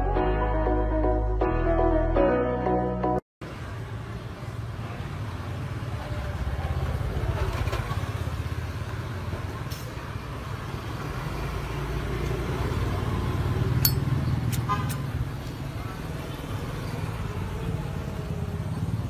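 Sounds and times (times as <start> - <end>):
road traffic rumble: 3.4 - 19.0.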